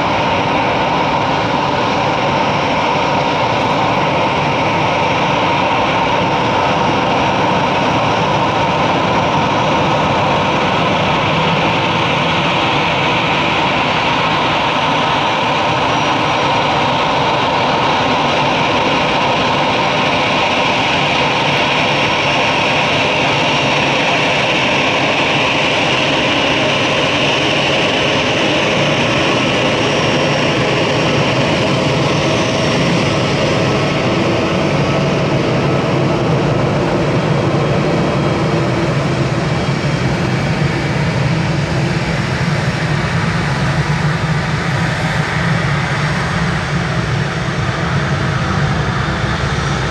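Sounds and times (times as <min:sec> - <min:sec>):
jet engines running: 0:00.0 - 0:49.9.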